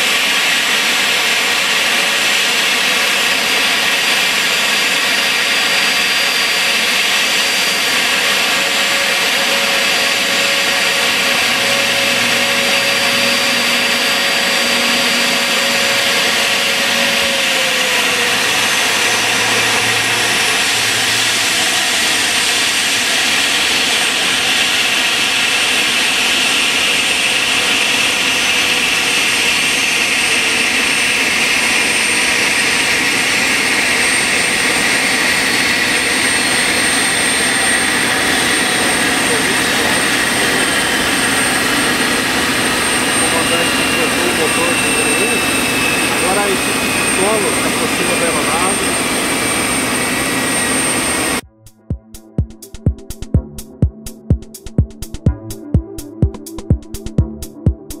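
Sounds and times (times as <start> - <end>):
jet turbine whining: 0.0 - 51.5.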